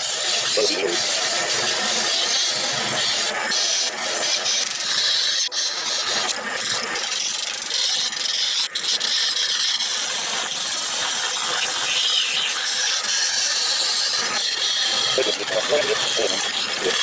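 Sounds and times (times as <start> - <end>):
wood lathe scraping hiss: 0.0 - 17.0.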